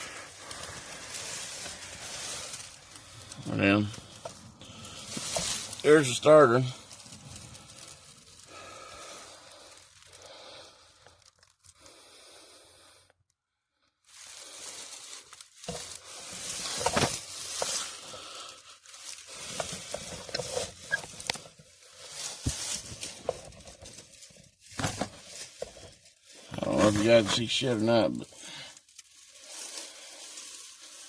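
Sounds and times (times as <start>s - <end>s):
rustling and scraping: 0.0s - 10.3s, 14.1s - 31.0s.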